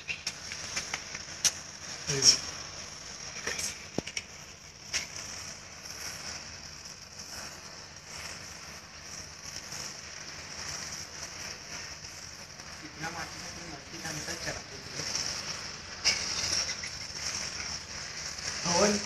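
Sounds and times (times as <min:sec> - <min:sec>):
burning matchsticks crackling: 0:00.0 - 0:19.0
sharp pops: 0:00.0 - 0:19.0
steady high hiss: 0:00.0 - 0:19.0.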